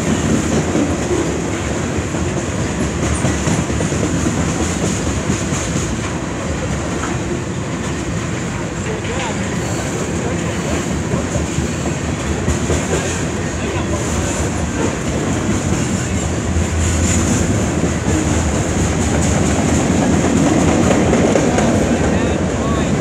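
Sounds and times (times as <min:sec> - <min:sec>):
freight train cars clattering over rails: 0:00.0 - 0:23.0.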